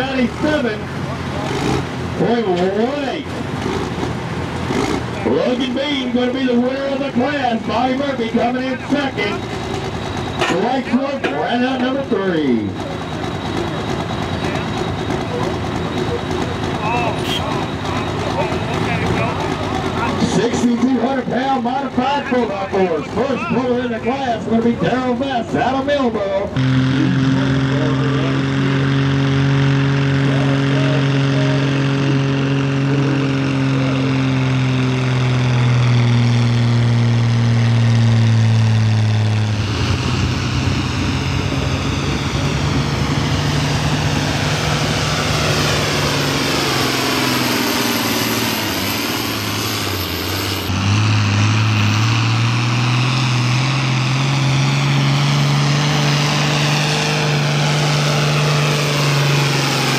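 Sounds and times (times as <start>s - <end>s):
tractor engine at full throttle: 0.0s - 59.9s.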